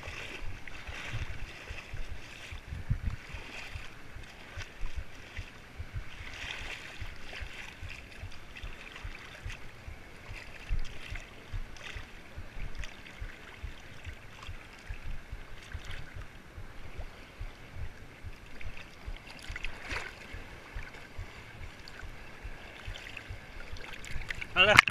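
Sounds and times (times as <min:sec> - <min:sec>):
paddle strokes splashing: 0:00.0 - 0:24.9
water lapping against kayak: 0:00.0 - 0:24.9
wind buffeting microphone: 0:00.0 - 0:24.9.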